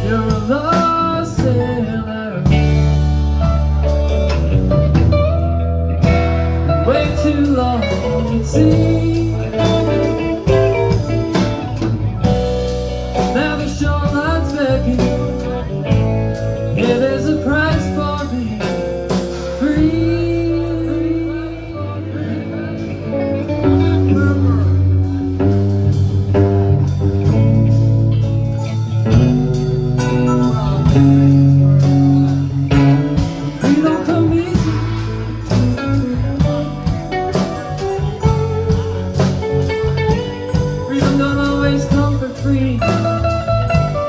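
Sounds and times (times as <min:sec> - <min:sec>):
gliding bent guitar notes: 0:00.0 - 0:44.0
live rock band playing: 0:00.0 - 0:44.0.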